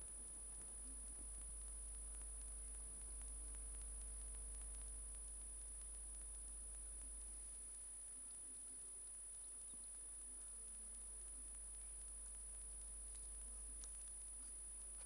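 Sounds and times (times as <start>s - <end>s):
faint low hum: 0.0s - 15.0s
faint scattered ticks: 0.0s - 15.0s.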